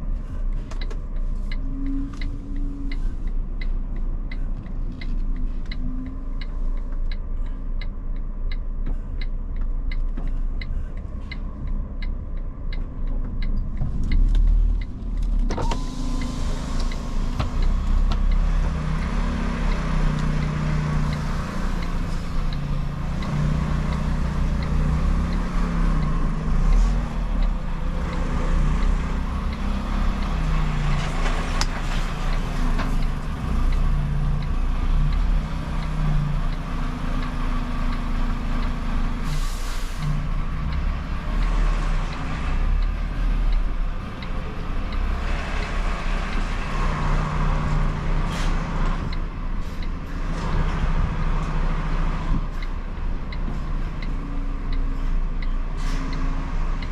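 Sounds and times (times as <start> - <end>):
turn signal ticking: 0.0 - 39.4, 40.0 - 56.9
diesel truck engine: 0.0 - 56.9
road and tyre noise: 0.0 - 56.9.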